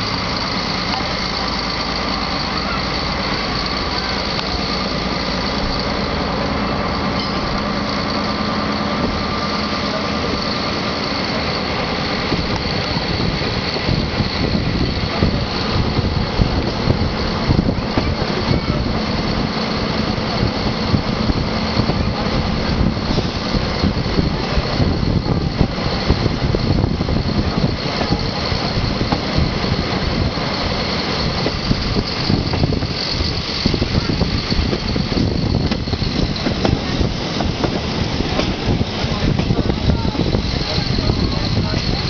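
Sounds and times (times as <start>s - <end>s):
diesel railcar engine running: 0.0s - 42.0s.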